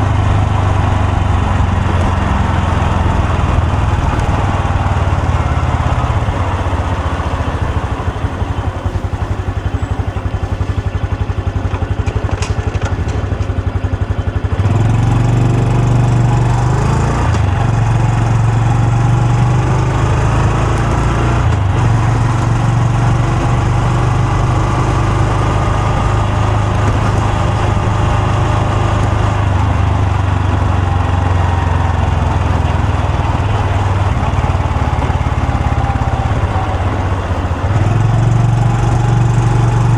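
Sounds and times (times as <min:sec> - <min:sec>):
motorcycle engine revving: 0:00.0 - 0:11.4, 0:14.5 - 0:39.9.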